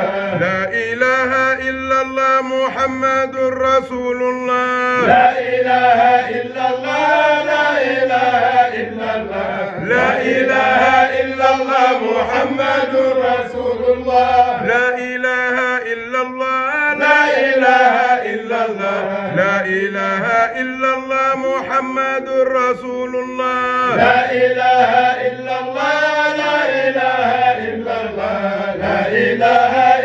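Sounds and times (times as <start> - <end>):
voices chanting devotional phrases: 0.0 - 30.0.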